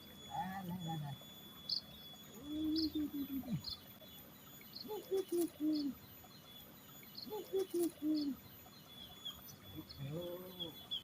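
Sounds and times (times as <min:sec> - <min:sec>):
faint high chirps: 0:00.0 - 0:11.0
bird calling low phrase: 0:00.2 - 0:03.9, 0:04.7 - 0:06.2, 0:07.0 - 0:11.0.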